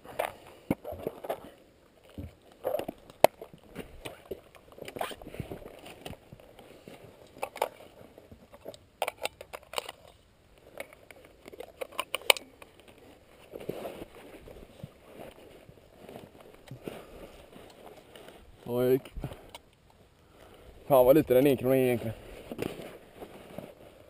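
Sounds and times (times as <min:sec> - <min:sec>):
clicks and knocks of gear: 0:00.0 - 0:24.0
gear rustling: 0:00.0 - 0:24.0.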